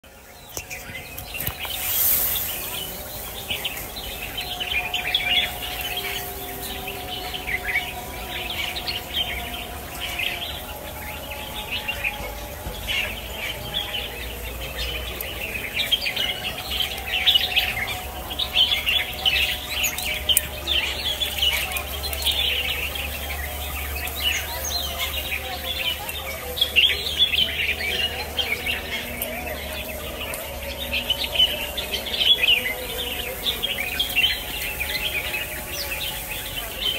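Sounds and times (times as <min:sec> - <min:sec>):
songbirds chirping chorus: 0:00.0 - 0:36.9.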